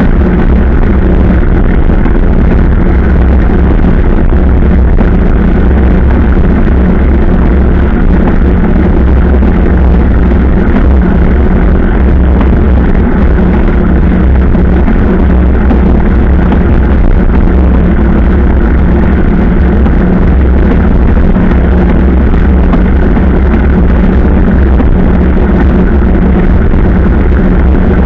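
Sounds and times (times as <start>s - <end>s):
motorcycle engine drone: 0.0s - 28.0s.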